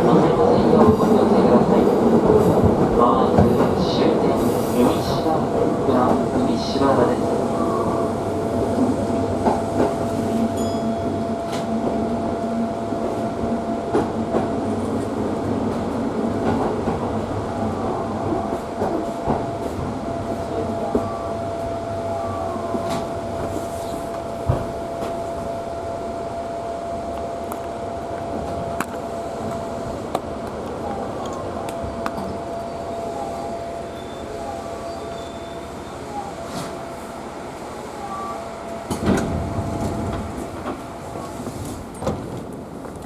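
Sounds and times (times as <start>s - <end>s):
train wheels on rail: 0.0s - 43.0s.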